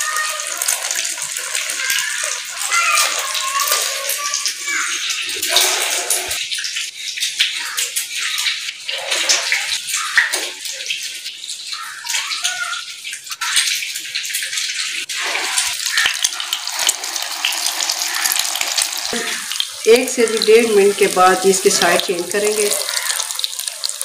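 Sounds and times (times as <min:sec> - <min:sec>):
food deep-frying in oil: 0:00.0 - 0:24.0.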